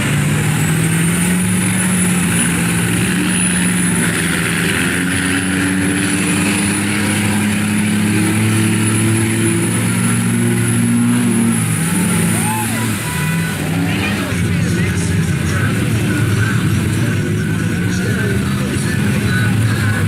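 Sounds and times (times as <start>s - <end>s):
diesel engine under load: 0.0s - 20.0s
mud and water splashing: 0.0s - 20.0s.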